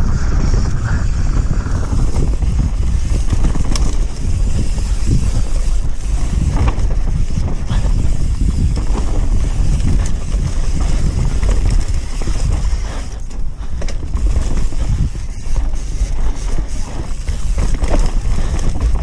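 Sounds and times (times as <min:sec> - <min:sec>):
bike frame and chain rattling: 0:00.0 - 0:19.0
wind rumble on microphone: 0:00.0 - 0:19.0
tyres rolling over dirt and rocks: 0:01.9 - 0:19.0.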